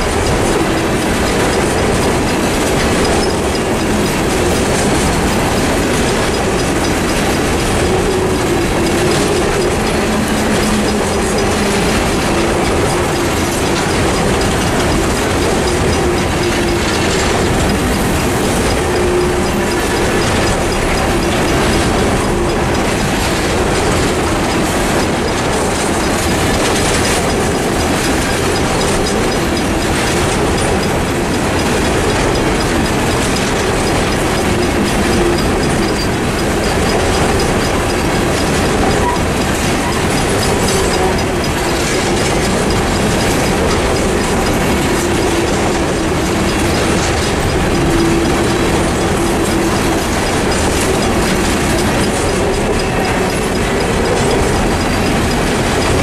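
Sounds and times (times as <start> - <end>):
crossing bell ringing: 0.0 - 56.0
train wheels clacking over rail joints: 0.0 - 56.0.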